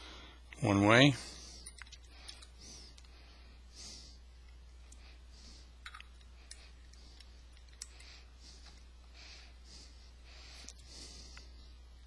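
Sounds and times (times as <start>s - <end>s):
soft breathing: 0.0s - 12.0s.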